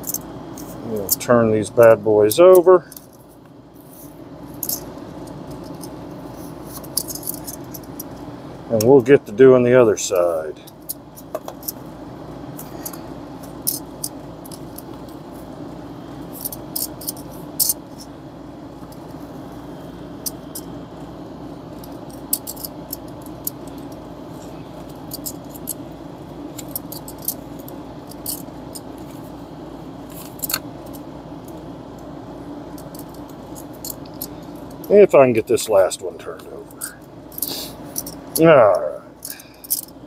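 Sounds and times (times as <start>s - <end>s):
low background hum: 0.0s - 40.0s.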